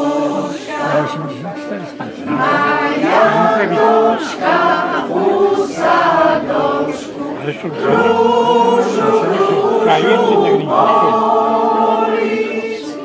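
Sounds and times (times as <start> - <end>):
mixed choir singing a cappella: 0.0 - 13.0.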